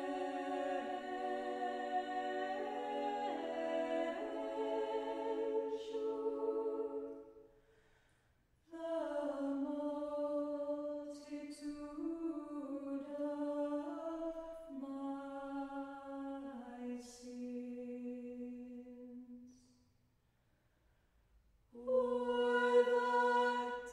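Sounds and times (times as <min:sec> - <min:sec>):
church choir singing a cappella: 0:00.0 - 0:07.4, 0:08.7 - 0:19.3, 0:21.8 - 0:23.9.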